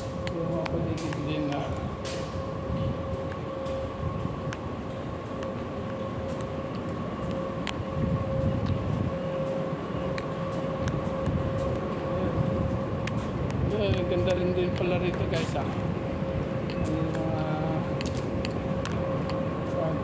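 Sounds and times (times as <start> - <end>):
mechanical hum with whine: 0.0 - 20.0.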